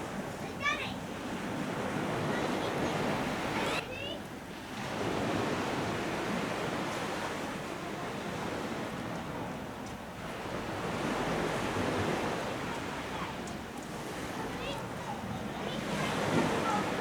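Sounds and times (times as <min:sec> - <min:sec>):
surf washing onto beach: 0:00.0 - 0:17.0.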